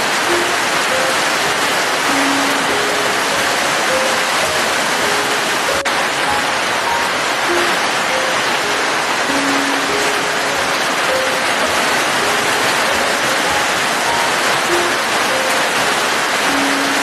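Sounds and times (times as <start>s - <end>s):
slow melody of held notes: 0.0s - 17.0s
steady rain: 0.0s - 17.0s.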